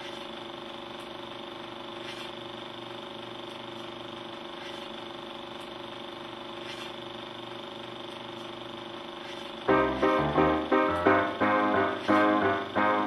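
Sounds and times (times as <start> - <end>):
film projector humming: 0.0 - 13.0.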